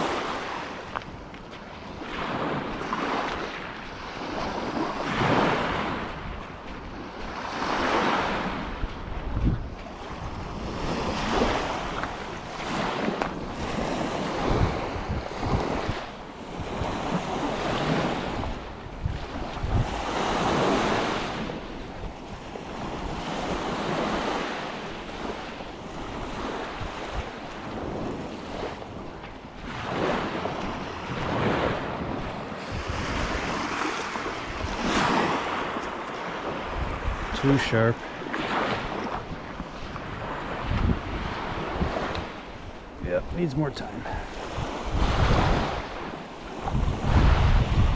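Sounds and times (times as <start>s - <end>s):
lake waves washing ashore: 0.0s - 47.9s
wind buffeting microphone: 0.0s - 47.9s.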